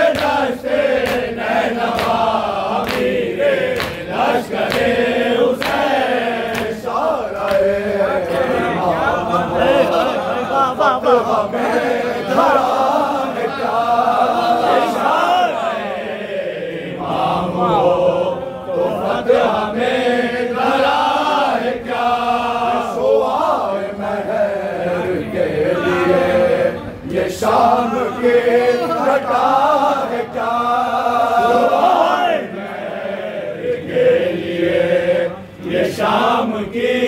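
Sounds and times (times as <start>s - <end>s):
lead reciter singing: 0.0s - 37.0s
men chanting in unison: 0.0s - 37.0s.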